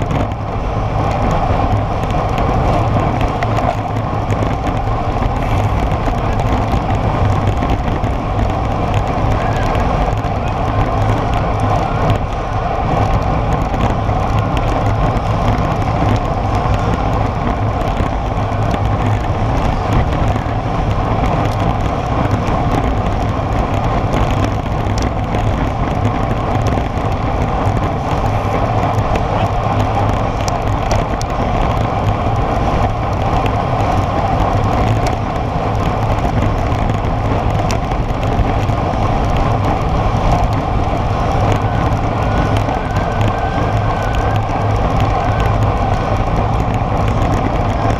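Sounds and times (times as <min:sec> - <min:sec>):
tyres rolling on asphalt: 0:00.0 - 0:47.9
wind buffeting microphone: 0:00.0 - 0:47.9.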